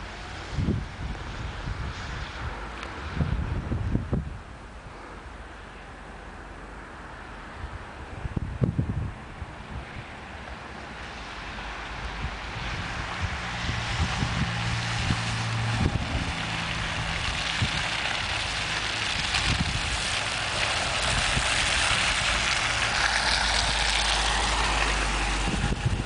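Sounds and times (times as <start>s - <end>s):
car engine approaching: 0.0s - 26.0s.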